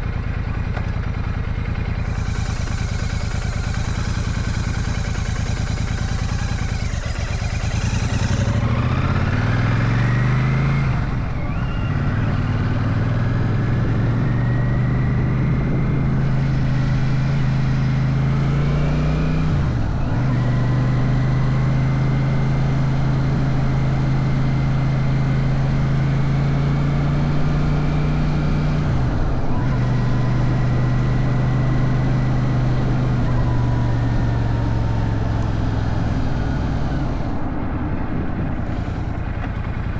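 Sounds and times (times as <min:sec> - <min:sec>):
motorcycle engine accelerating: 0:00.0 - 0:39.9
road and wind rush: 0:00.0 - 0:39.9.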